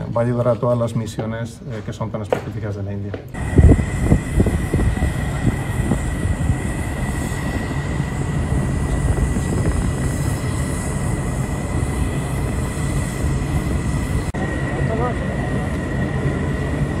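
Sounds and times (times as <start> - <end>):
low rumble: 3.4 - 17.0
thin high whine: 3.4 - 17.0.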